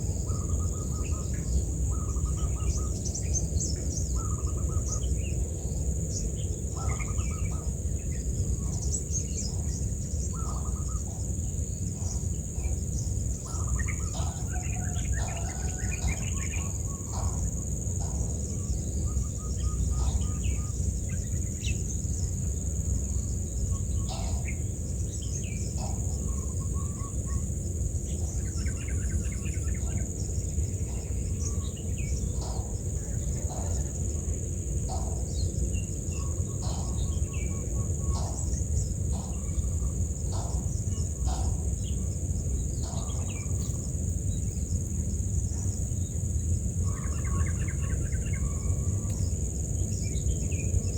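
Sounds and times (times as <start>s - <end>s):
insects buzzing: 0.0s - 50.9s
small birds chirping: 0.0s - 50.9s.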